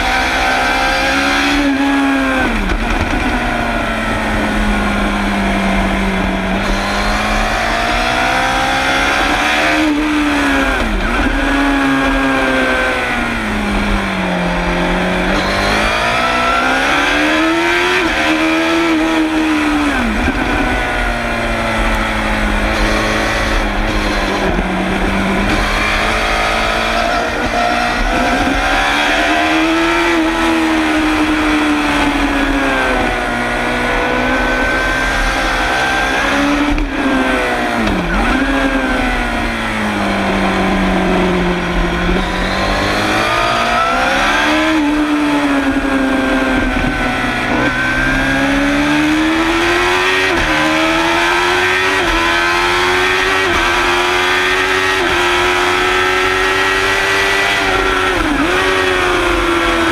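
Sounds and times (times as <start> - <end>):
motorcycle engine at racing speed: 0.0 - 59.9.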